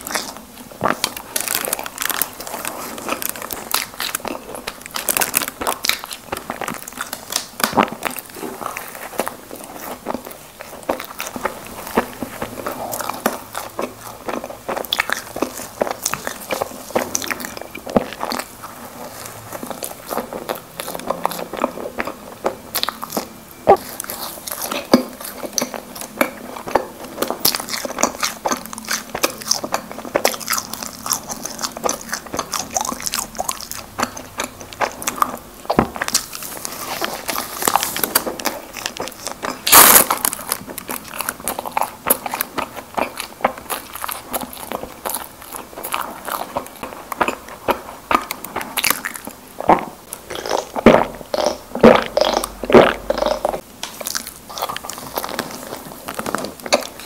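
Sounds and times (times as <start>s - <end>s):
biting and chewing: 0.0s - 57.0s.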